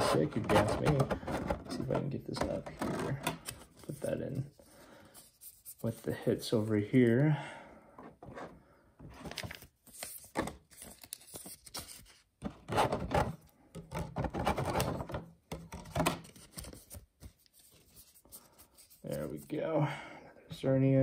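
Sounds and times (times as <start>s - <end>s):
cards rustling in plastic sleeves: 0.0s - 7.3s, 9.1s - 12.5s, 13.3s - 19.6s.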